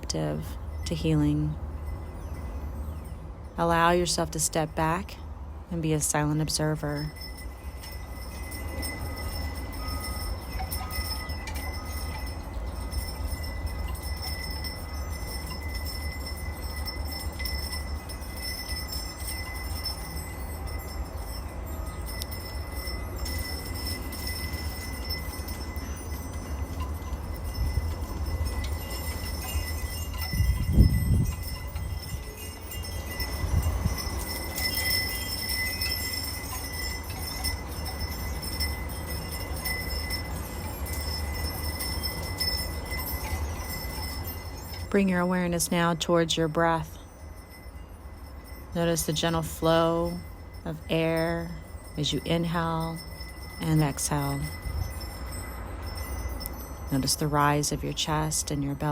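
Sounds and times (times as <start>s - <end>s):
low wind rumble: 0.0s - 58.9s
wind chimes ringing: 0.0s - 58.9s.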